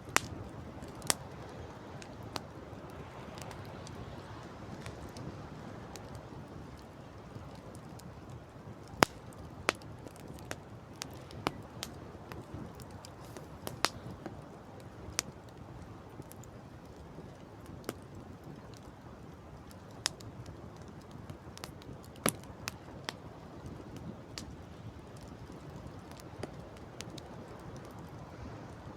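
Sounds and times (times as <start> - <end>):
campfire crackling: 0.0 - 28.9.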